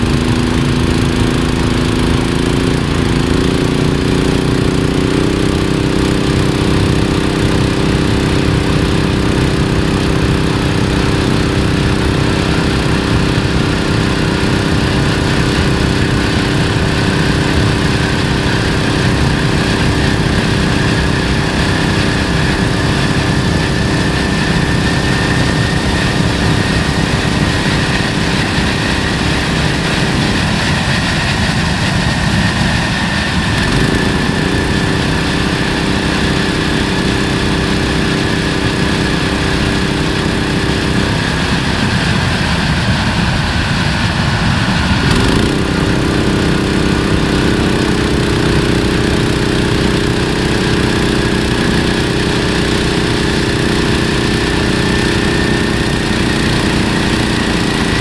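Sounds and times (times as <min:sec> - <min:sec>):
gas turbine engine roar: 0:00.0 - 0:58.0
small petrol engine drone: 0:00.0 - 0:58.0.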